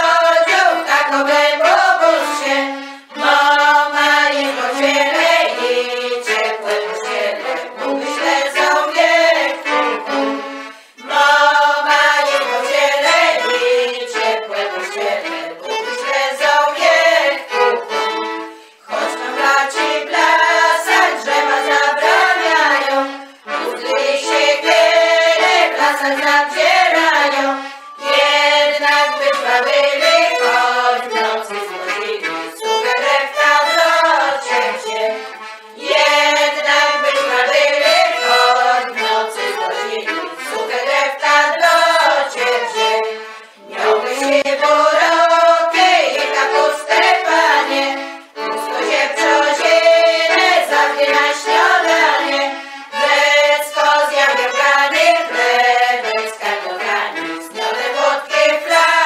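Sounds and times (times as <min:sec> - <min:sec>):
accordion: 0:00.0 - 0:59.0
violin: 0:00.0 - 0:59.0
women's choir singing: 0:00.0 - 0:59.0.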